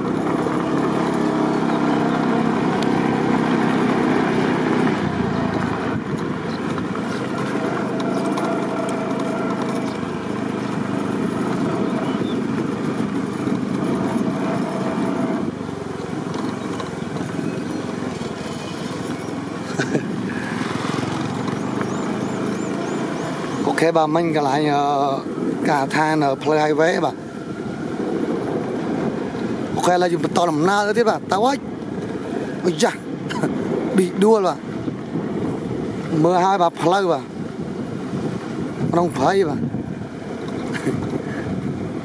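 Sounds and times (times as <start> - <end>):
small motorbike engine: 0.0 - 42.0
wind and road noise: 0.0 - 42.0.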